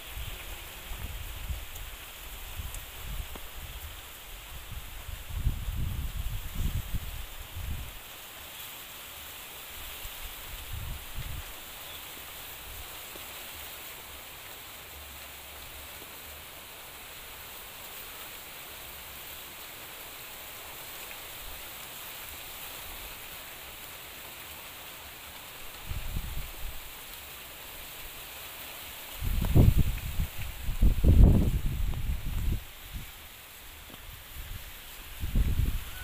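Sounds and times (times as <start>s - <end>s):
outdoor background hiss: 0.0s - 36.0s.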